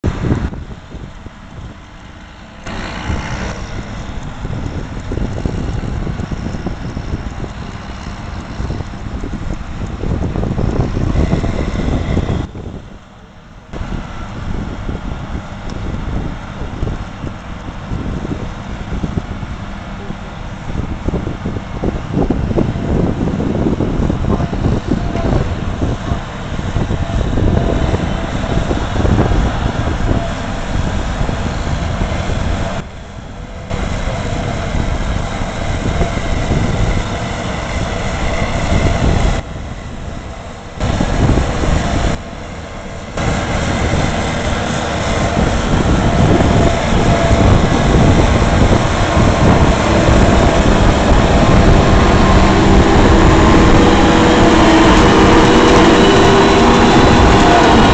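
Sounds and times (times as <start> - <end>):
second tractor running: 0.0 - 57.9
tractor running under load: 0.0 - 57.9.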